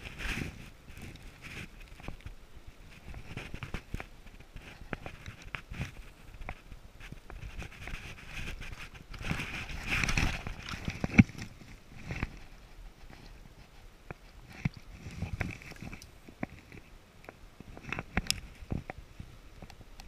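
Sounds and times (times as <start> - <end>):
close rustling of hands and net: 0.0 - 20.0.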